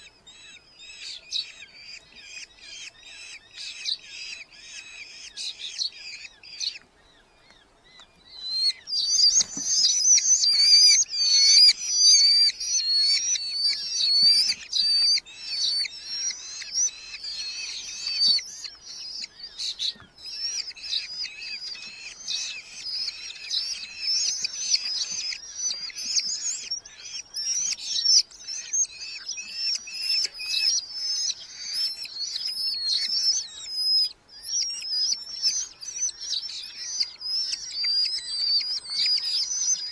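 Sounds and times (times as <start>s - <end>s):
falcon chicks calling: 0.0s - 39.9s.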